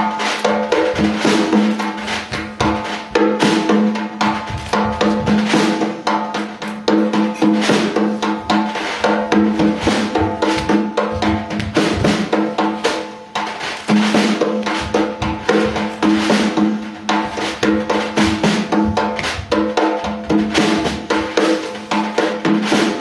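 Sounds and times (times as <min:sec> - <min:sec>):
frame drum hits: 0:00.0 - 0:23.0.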